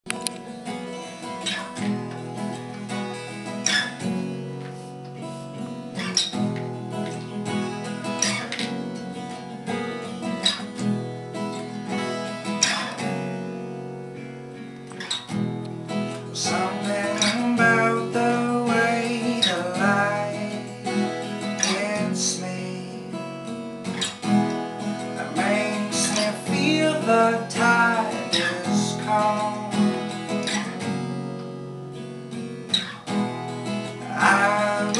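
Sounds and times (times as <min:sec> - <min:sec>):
acoustic guitar strumming chords: 0:00.0 - 0:34.9.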